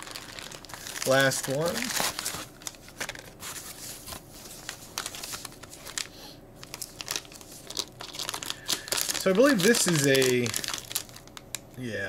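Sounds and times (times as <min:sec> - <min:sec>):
packing foam and bags rustling: 0:00.0 - 0:11.3.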